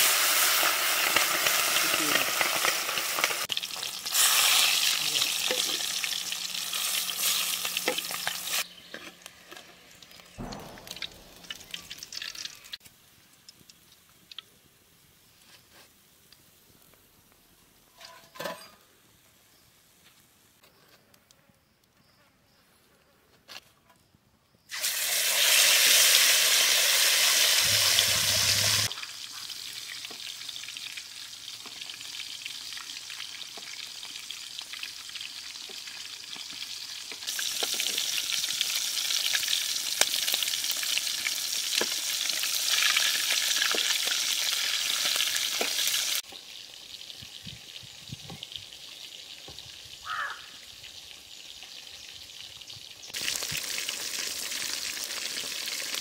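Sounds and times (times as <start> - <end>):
fish sizzling in hot oil: 0.0 - 16.6, 24.7 - 56.0.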